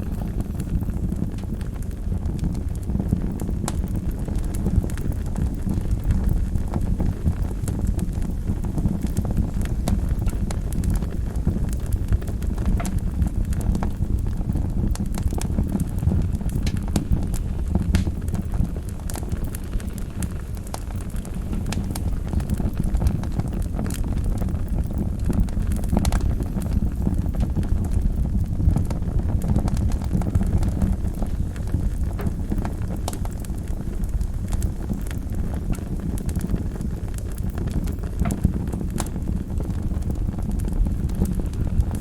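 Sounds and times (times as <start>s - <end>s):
fire popping and crackling: 0.0s - 42.0s
low rumble of flames: 0.0s - 42.0s.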